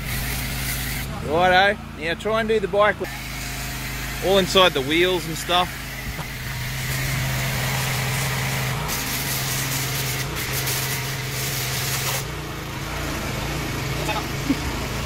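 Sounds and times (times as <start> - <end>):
spray jet hissing: 0.0 - 1.1, 3.1 - 15.0
pressure washer engine running: 0.0 - 15.0.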